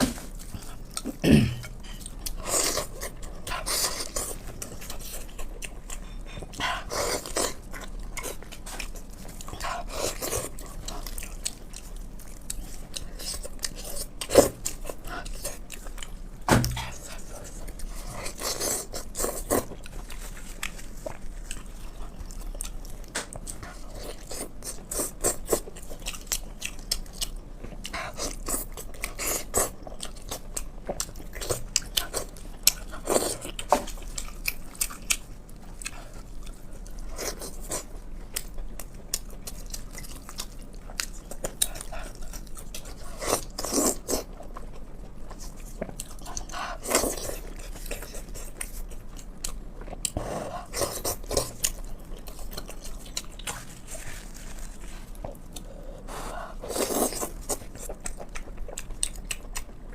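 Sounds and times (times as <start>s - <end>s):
chewing and lip-smacking: 0.3s - 59.9s.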